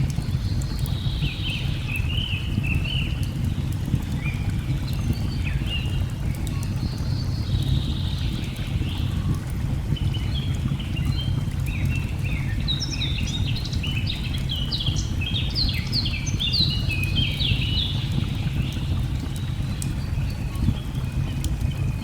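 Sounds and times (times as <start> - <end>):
faint fire crackles: 0.0 - 22.0.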